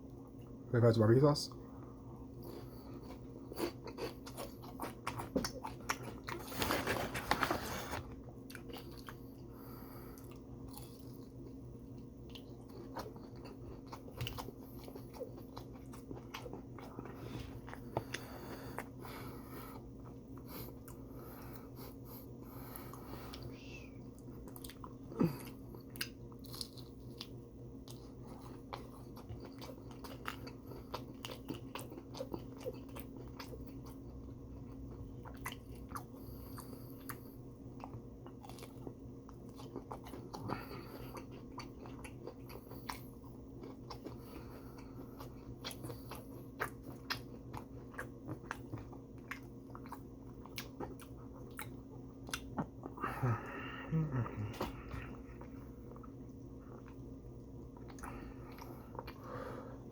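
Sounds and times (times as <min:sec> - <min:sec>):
steady low hum: 0:00.0 - 0:59.9
person chewing crunchy food: 0:02.1 - 0:59.9.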